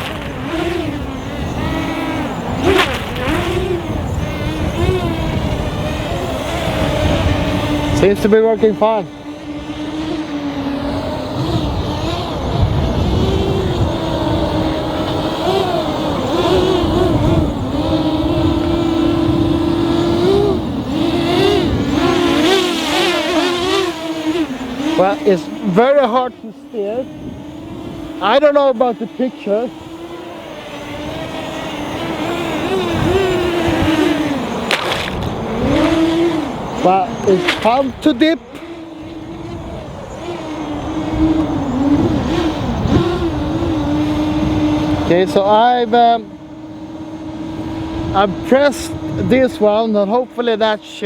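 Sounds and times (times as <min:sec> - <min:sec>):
drone propellers whining: 0:00.0 - 0:51.0.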